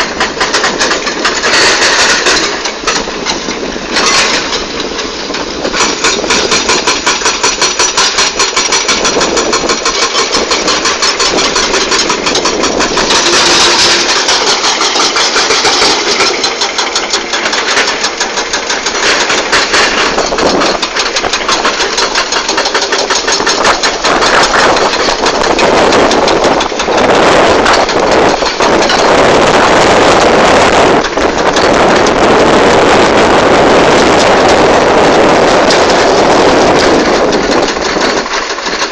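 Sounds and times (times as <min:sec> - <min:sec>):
excavator diesel engine running: 0:00.0 - 0:38.9
hydraulic rock breaker hammering: 0:00.0 - 0:38.9.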